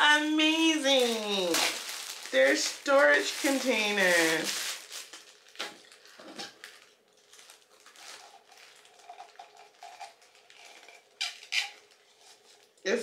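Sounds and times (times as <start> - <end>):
plastic wrapping crinkling: 0.0 - 12.9
plastic wrapping rustle: 0.1 - 13.0.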